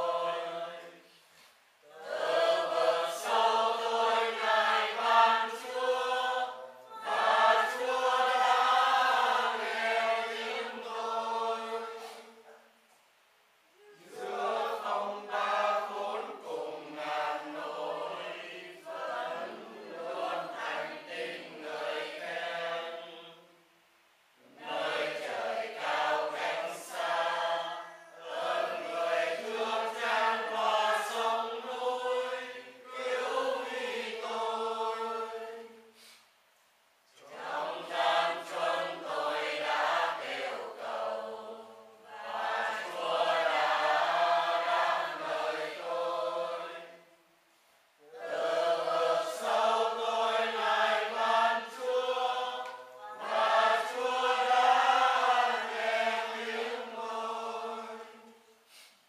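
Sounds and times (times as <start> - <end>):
group chanting prayers: 0.0 - 1.2, 1.8 - 12.6, 13.8 - 23.5, 24.4 - 36.1, 37.2 - 47.1, 48.0 - 58.4.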